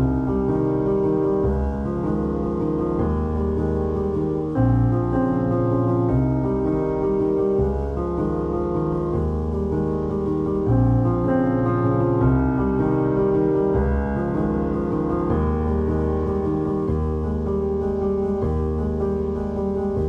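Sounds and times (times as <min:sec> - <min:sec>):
piano background music: 0:00.0 - 0:20.0.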